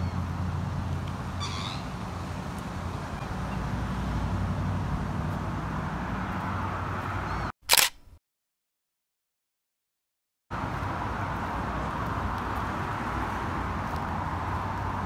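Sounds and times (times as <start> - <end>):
outdoor background noise: 0.0 - 8.2, 10.5 - 15.0.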